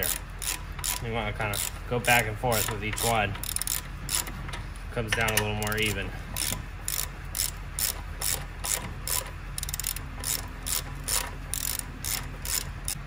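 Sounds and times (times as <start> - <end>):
ratchet clicking: 0.0 - 13.0.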